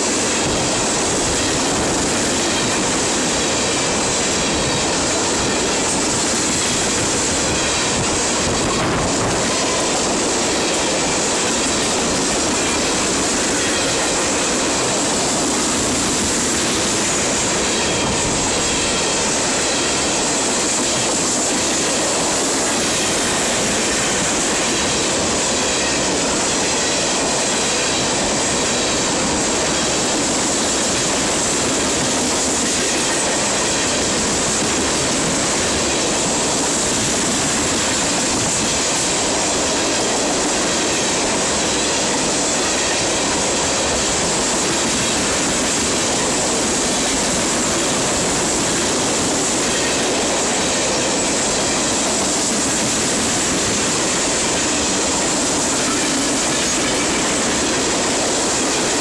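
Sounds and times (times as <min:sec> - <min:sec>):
freight train wheels rolling on rails: 0:00.0 - 0:59.0.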